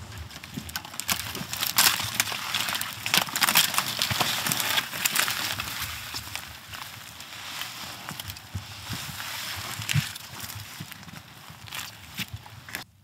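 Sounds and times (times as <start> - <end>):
footsteps on forest floor: 0.0 - 12.8
pine branches brushing: 0.0 - 12.9
twigs crackling and snapping: 0.0 - 13.0.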